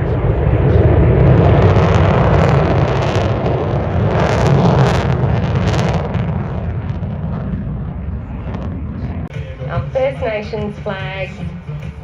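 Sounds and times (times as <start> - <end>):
aircraft engine noise: 0.0 - 12.0
wind rumbling on microphone: 0.0 - 12.0.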